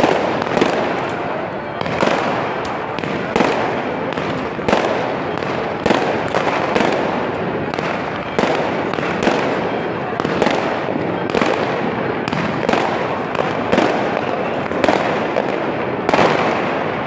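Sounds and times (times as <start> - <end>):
firework bangs: 0.0 - 17.0
fireworks crackling: 0.0 - 17.0.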